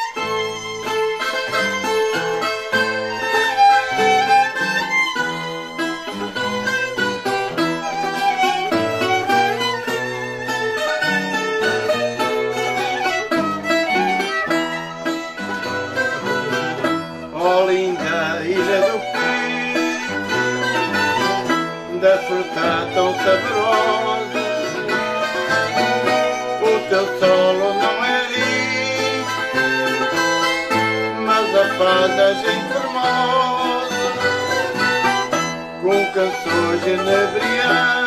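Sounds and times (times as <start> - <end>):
fiddle melody: 0.0 - 38.0
plucked strings: 0.0 - 38.0.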